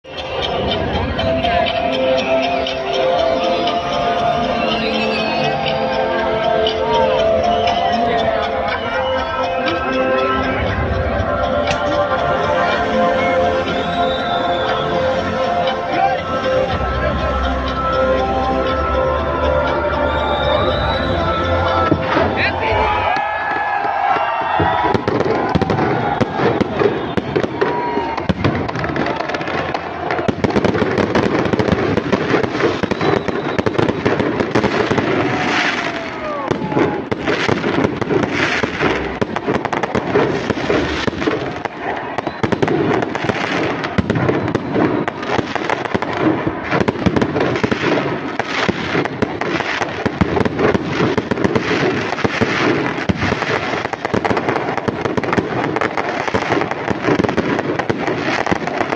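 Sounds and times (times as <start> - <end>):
fireworks crackling and banging: 0.0 - 17.8, 19.7 - 58.9
people's voices: 0.0 - 58.9.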